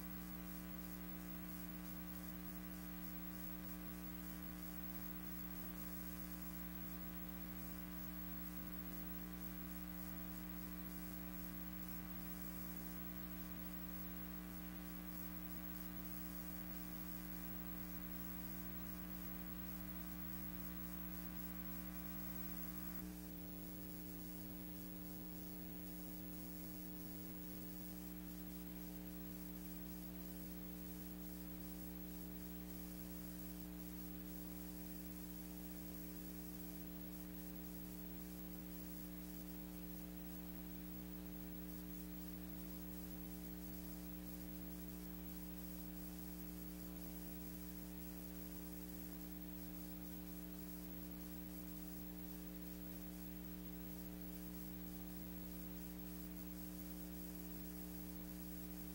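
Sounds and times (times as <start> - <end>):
electrical buzzing hum: 0.0 - 58.9
faint hiss: 0.0 - 58.9.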